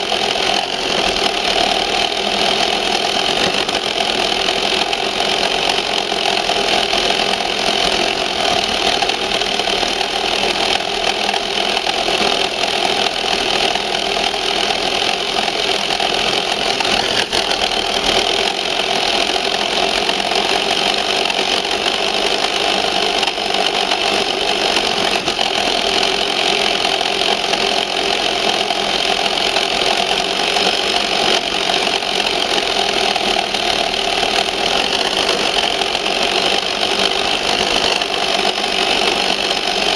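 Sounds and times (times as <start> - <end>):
toy truck electric motor whining: 0.0 - 39.9.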